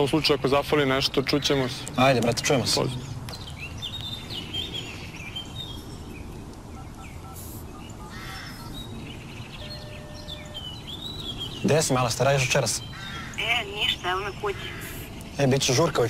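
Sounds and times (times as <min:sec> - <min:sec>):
low outdoor background noise: 0:00.0 - 0:16.0
small birds chirping: 0:00.0 - 0:16.0.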